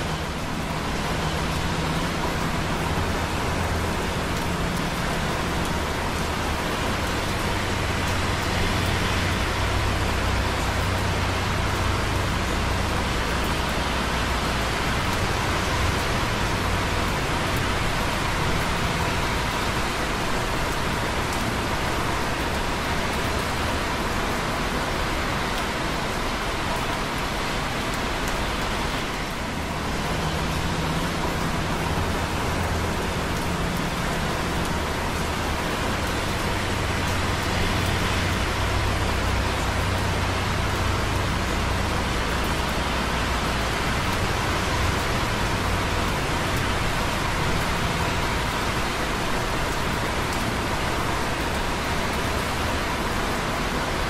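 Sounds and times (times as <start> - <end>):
busy traffic on wet roads: 0.0 - 54.0
light rain dripping on concrete: 0.0 - 54.0.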